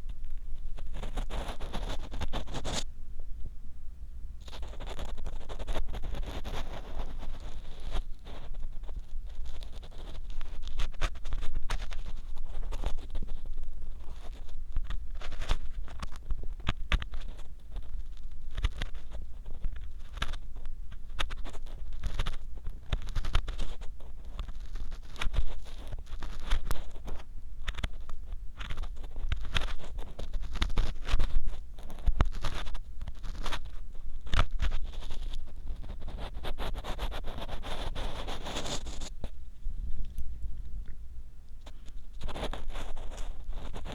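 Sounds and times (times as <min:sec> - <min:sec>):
ear pick scraping microphone: 0:00.0 - 0:02.9, 0:04.4 - 0:40.9, 0:41.6 - 0:43.9.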